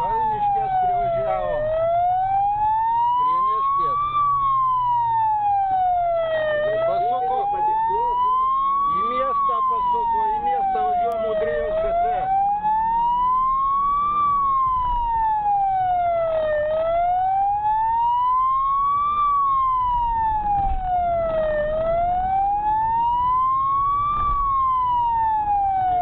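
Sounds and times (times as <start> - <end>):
car engine and road noise: 0.0 - 26.0
police siren wailing: 0.0 - 26.0.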